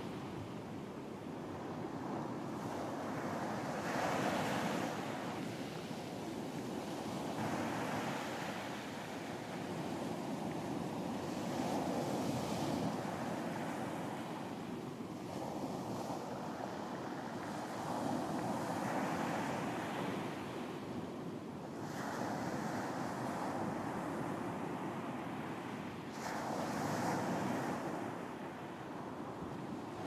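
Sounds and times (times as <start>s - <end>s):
ocean waves breaking on beach: 0.0s - 30.0s
wind: 0.0s - 30.0s.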